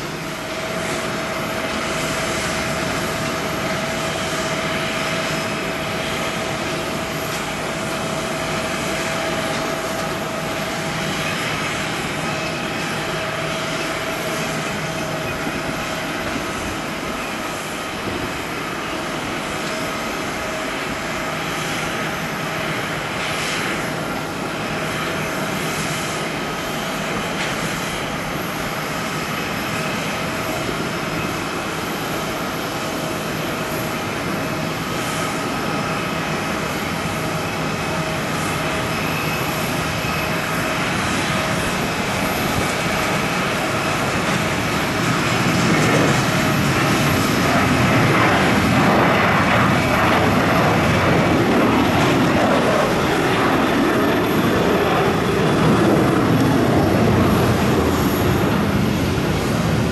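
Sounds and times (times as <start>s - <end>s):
jet engines whining and roaring: 0.0s - 59.9s.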